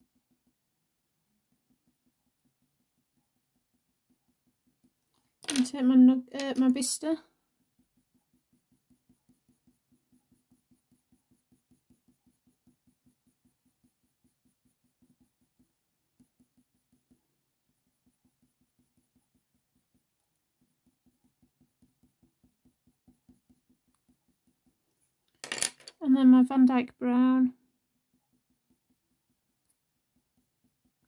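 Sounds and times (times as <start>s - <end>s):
pencil scratching on paper: 0.0s - 25.2s, 27.4s - 31.0s.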